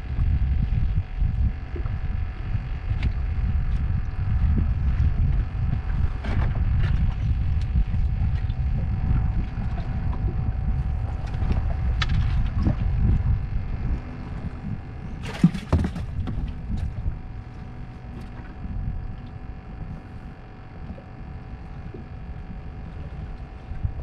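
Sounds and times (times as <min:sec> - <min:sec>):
water lapping at boat: 0:00.0 - 0:24.0
wind buffeting microphone: 0:00.0 - 0:24.0.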